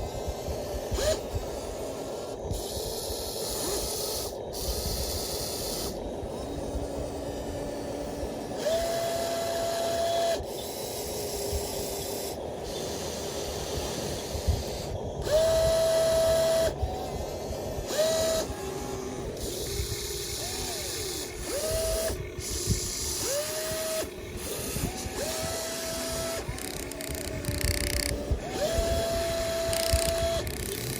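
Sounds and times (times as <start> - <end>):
small electric motors whining: 0.0 - 30.9.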